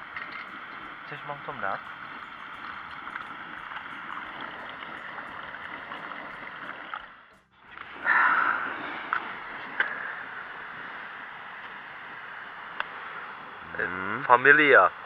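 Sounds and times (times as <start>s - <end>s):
gas stove burner hissing: 0.0s - 13.6s.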